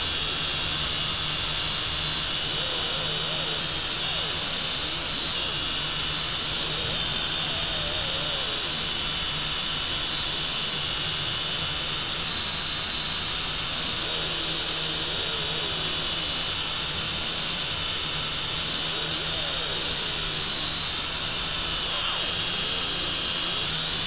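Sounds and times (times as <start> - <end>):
quadcopter motors humming: 0.0 - 24.0.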